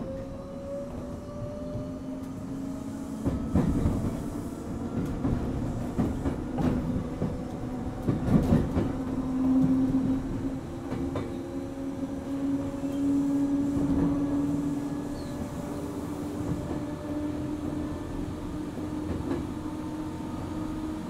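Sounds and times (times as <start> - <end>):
low train rumble: 0.0 - 21.0.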